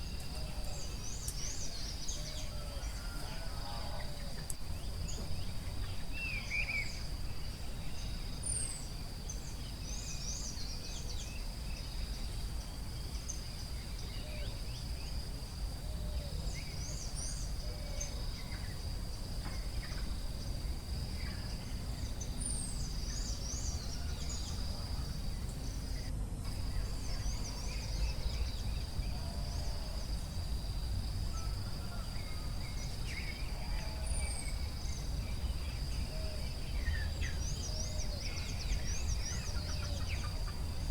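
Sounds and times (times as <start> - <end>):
low steady rumble: 4.5 - 40.9.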